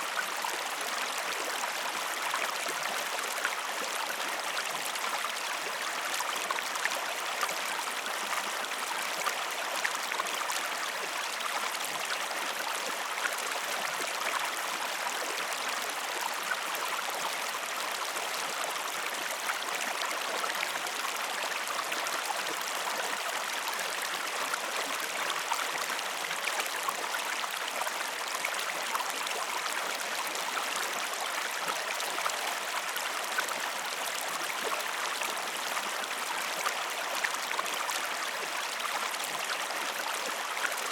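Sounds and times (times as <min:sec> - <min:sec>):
stream running water: 0:00.0 - 0:40.9.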